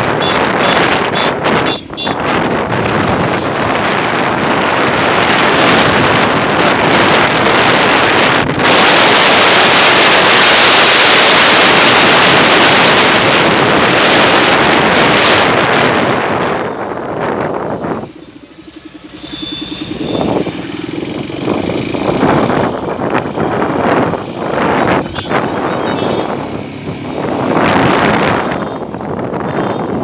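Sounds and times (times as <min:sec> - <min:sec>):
loud wind on microphone: 0:00.0 - 0:18.2, 0:19.8 - 0:30.0.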